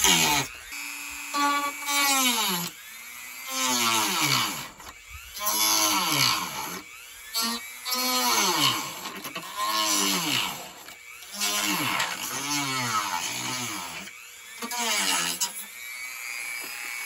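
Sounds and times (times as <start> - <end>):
rotary tool cutting plastic: 0.0 - 17.0.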